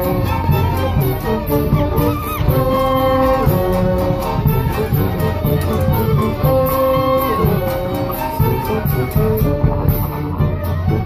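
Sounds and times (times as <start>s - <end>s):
acoustic street band playing: 0.0s - 11.0s
bass drum and snare beat: 0.0s - 11.0s.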